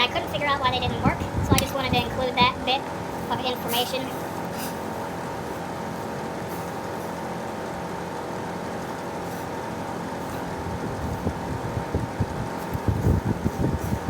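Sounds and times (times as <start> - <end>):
electric fan whirring hum: 0.0 - 14.0.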